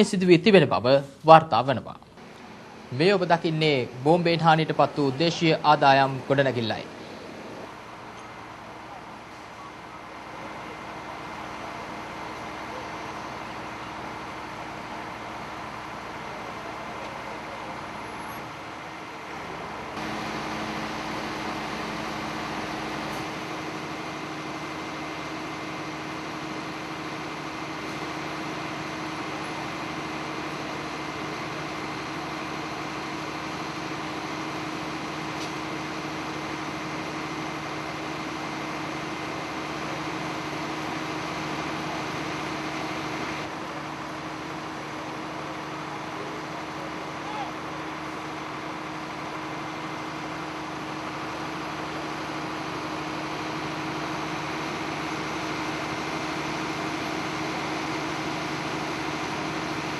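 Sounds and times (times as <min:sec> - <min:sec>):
steady machine hum: 0:02.1 - 0:59.9.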